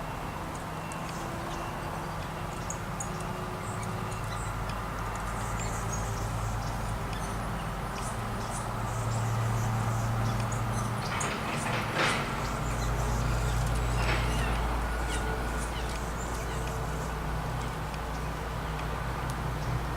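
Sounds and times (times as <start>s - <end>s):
songbirds chirping: 0.1s - 19.9s.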